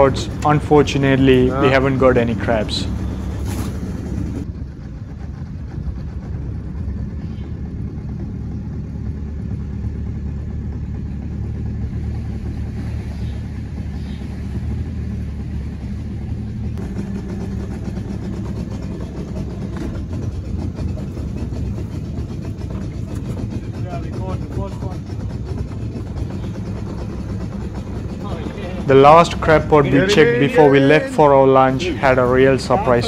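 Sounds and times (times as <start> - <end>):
boat motor running: 0.0 - 33.0.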